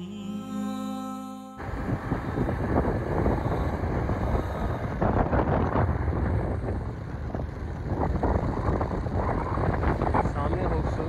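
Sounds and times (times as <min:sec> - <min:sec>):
motorcycle engine running: 0:01.6 - 0:11.0
wind buffeting microphone: 0:01.6 - 0:11.0.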